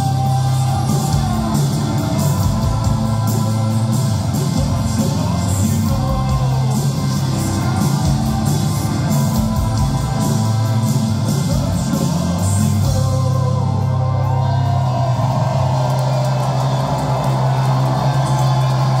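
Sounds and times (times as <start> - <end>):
person singing: 0.0 - 15.4
bass guitar: 0.0 - 19.0
drums and cymbals: 0.0 - 19.0
electric guitars: 0.0 - 19.0.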